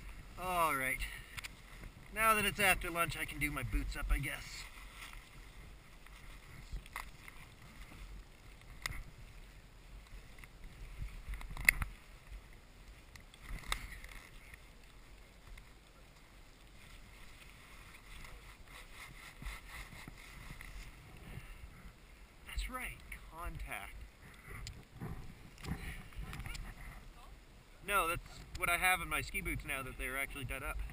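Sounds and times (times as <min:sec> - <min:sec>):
light wind: 0:00.0 - 0:30.9
rustle of handling: 0:00.0 - 0:30.9.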